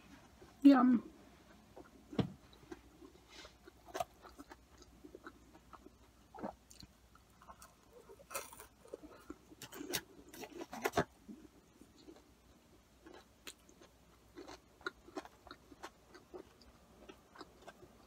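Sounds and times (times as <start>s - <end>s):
chewing crunchy fries: 1.8s - 18.0s.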